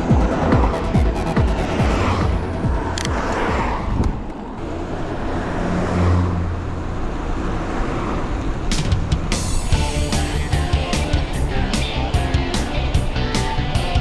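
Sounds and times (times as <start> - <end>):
cars passing by: 0.0 - 14.0
steady low traffic hum: 0.0 - 14.0.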